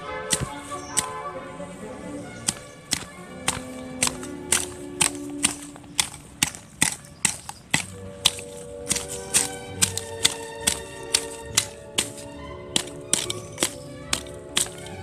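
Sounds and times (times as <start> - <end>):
background music with held notes: 0.0 - 6.4, 7.8 - 15.0
hoe chopping into soil: 0.2 - 1.2, 2.4 - 15.0.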